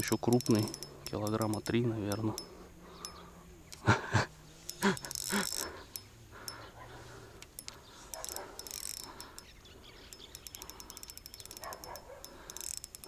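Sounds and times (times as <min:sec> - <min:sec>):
fishing reel clicking: 0:00.0 - 0:04.0, 0:04.6 - 0:13.0.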